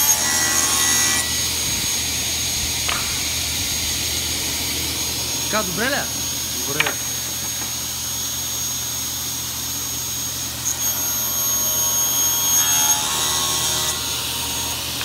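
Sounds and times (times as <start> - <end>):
saw blade whine cutting board: 0.0 - 15.0
table saw running: 0.0 - 15.0.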